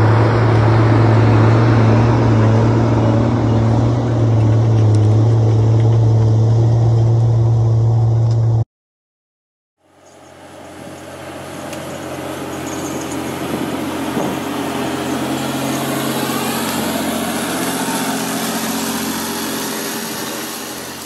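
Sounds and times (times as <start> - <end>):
diesel engine under load: 0.0 - 8.6, 9.8 - 21.0.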